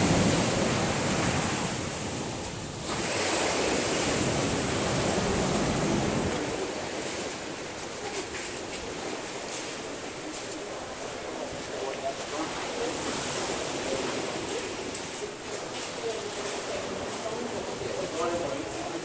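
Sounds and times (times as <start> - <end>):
small waves washing up beach: 0.0 - 19.0.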